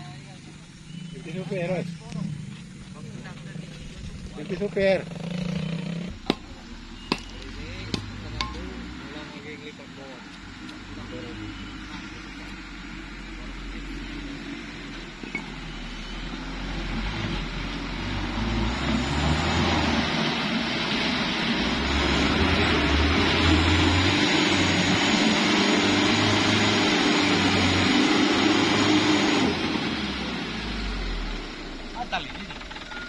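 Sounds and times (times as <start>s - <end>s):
diesel truck engine labouring: 0.0s - 33.0s.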